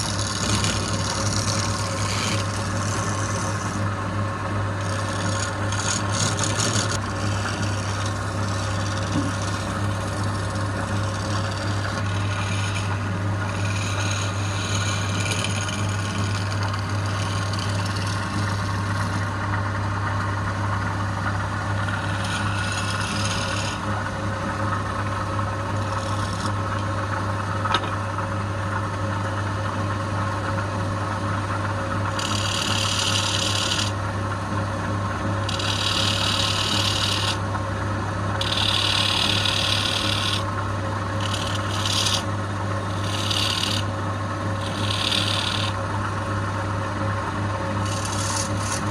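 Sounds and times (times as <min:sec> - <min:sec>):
wood lathe humming: 0:00.0 - 0:48.9.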